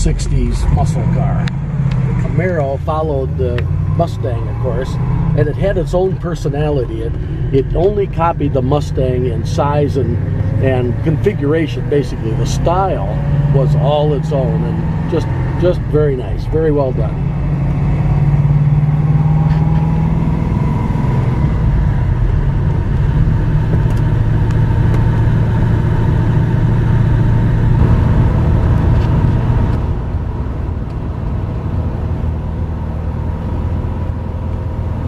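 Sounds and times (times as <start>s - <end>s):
car engine running: 0.0s - 35.0s
road noise: 0.0s - 35.0s.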